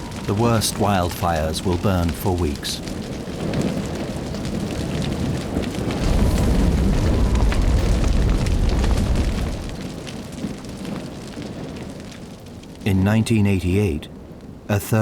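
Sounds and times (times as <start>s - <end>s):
deep fire rumble: 0.0s - 15.0s
wildfire crackling: 0.0s - 15.0s.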